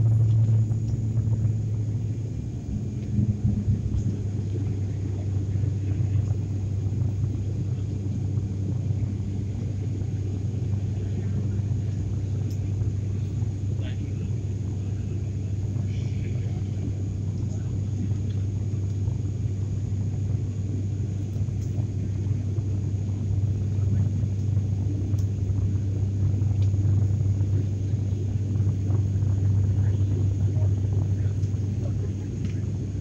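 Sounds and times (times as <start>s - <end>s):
airliner cabin drone: 0.0s - 33.0s.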